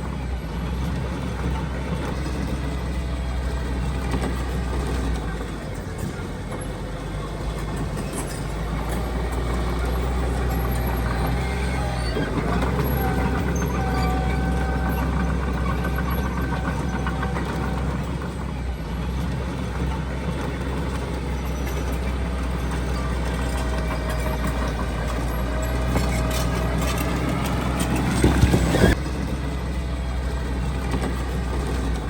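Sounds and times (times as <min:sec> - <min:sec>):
diesel engine of heavy machinery: 0:00.0 - 0:32.0.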